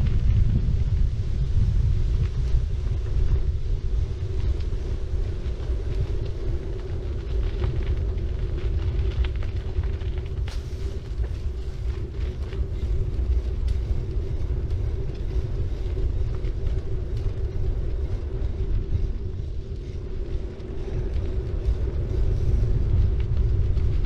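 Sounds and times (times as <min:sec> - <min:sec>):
bike tyres and wind rumble: 0:00.0 - 0:24.0
constant hum: 0:00.0 - 0:24.0.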